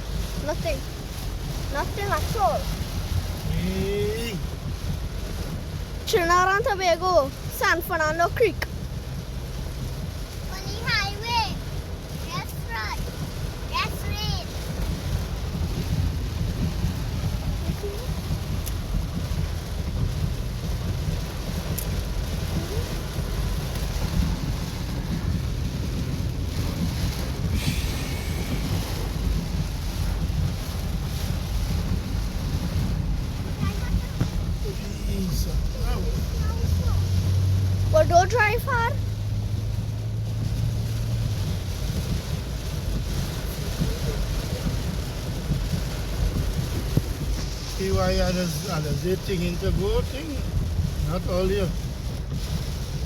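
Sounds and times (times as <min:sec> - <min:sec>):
heavy rain on a car: 0:00.0 - 0:53.0
low engine hum: 0:00.0 - 0:53.0
tyres swishing through water: 0:00.0 - 0:53.0.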